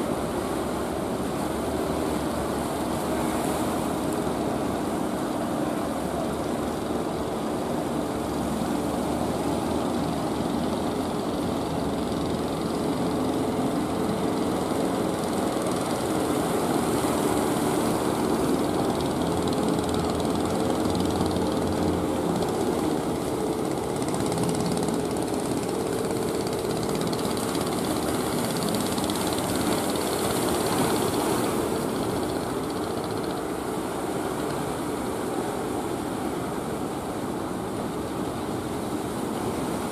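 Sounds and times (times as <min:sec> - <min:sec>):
boat engines droning: 0:00.0 - 0:39.9
continuous hiss: 0:00.0 - 0:39.9.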